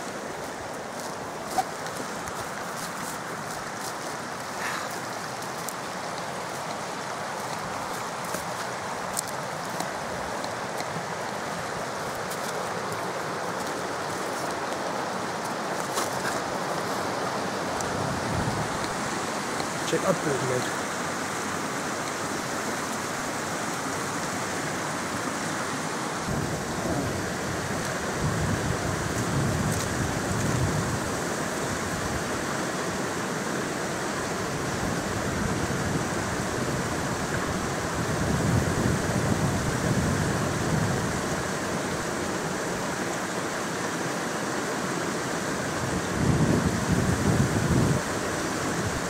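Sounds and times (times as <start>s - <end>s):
wind rumbling on microphone: 0.0s - 43.2s, 45.6s - 49.0s
running stream water: 0.0s - 49.0s.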